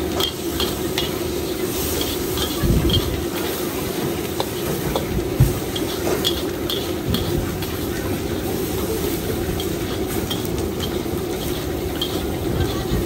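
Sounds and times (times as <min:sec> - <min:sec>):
metal ladle scraping wok: 0:00.0 - 0:13.0
wok hissing and sizzling: 0:00.0 - 0:13.0.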